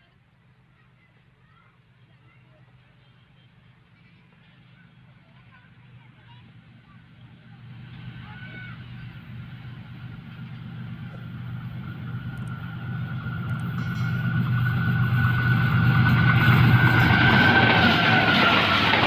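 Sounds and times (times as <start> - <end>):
diesel locomotive approaching: 0.1 - 19.0.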